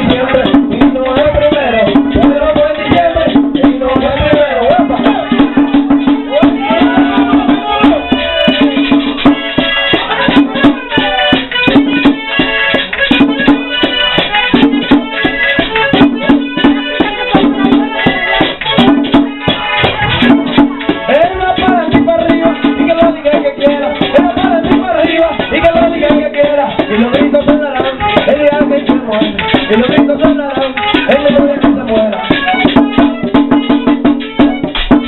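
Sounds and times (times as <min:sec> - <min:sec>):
accordion melody: 0:00.0 - 0:35.0
drum beating: 0:00.0 - 0:35.0.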